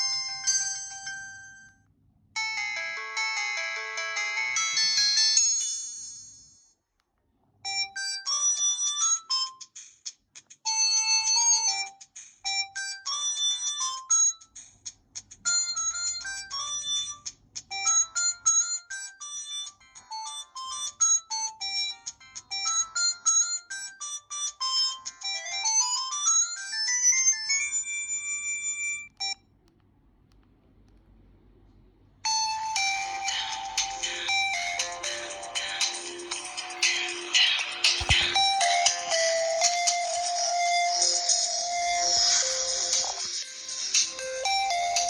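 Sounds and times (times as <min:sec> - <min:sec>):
mobile phone polyphonic ringtone: 0:00.0 - 0:01.8, 0:02.4 - 0:06.6, 0:07.7 - 0:09.7, 0:10.7 - 0:14.6, 0:15.5 - 0:29.4, 0:32.3 - 0:45.0.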